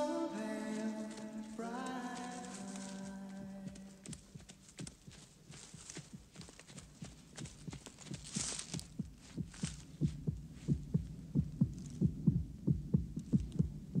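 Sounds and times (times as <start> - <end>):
faint low hum: 0.0 - 14.0
heartbeat thumps: 1.9 - 14.0.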